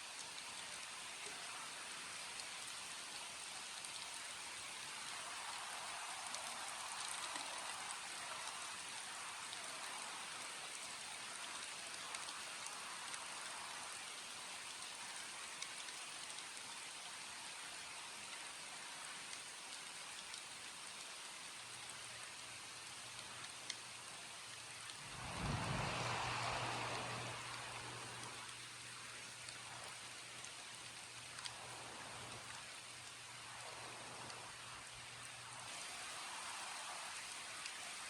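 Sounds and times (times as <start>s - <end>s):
steady rain falling: 0.0s - 38.0s
raindrops ticking: 3.7s - 35.2s.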